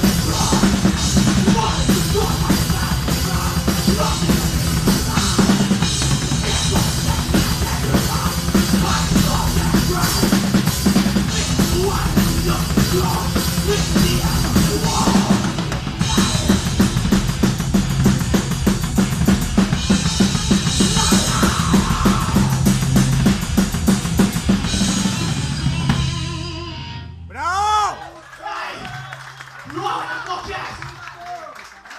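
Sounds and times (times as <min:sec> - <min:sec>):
fast driving drumming: 0:00.0 - 0:26.6
rock band playing live: 0:00.0 - 0:27.7.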